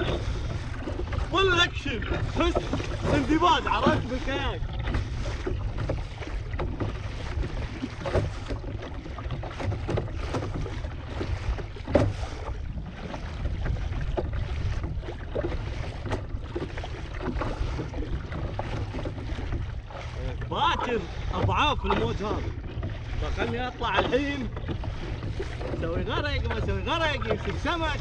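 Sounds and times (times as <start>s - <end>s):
water splashing against kayak: 0.0s - 28.0s
wind buffeting microphone: 0.0s - 28.0s.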